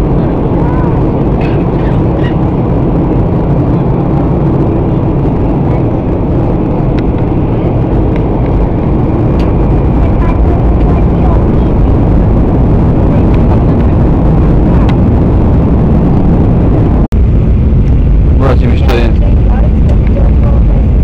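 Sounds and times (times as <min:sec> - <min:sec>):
jet airliner cabin noise: 0:00.0 - 0:21.0.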